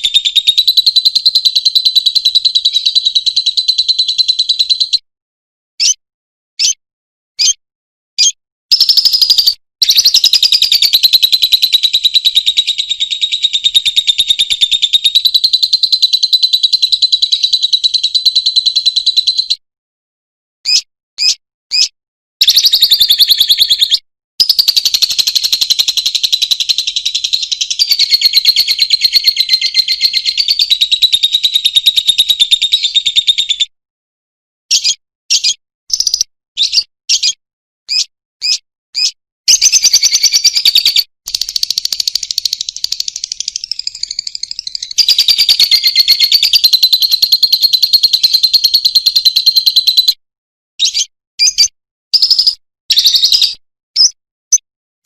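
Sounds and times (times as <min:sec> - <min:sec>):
bird chirping and trilling: 0:00.0 - 0:05.1, 0:05.8 - 0:06.0, 0:06.6 - 0:06.8, 0:07.4 - 0:07.6, 0:08.2 - 0:19.6, 0:20.6 - 0:33.8, 0:34.7 - 0:50.2, 0:50.8 - 0:54.6.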